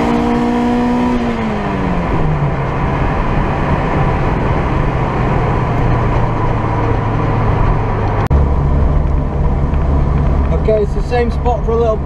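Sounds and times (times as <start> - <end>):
car engine running: 0.0 - 12.0
road and tyre noise: 0.0 - 12.0.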